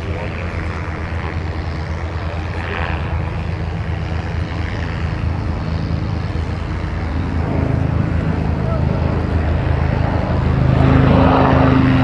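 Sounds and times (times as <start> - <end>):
helicopter rotor beat: 0.0 - 12.0
turboshaft engines whining: 0.0 - 12.0.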